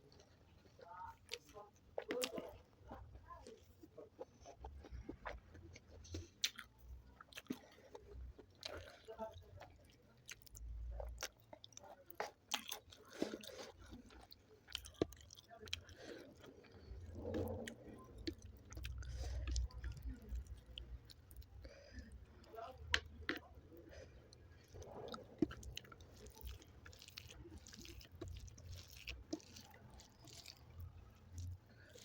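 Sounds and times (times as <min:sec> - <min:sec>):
close-up chewing: 0:00.0 - 0:32.0.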